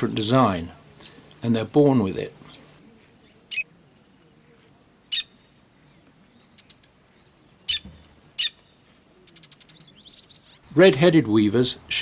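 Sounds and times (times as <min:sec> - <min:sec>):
weaver birds chirping: 0:00.0 - 0:03.7, 0:05.1 - 0:12.0.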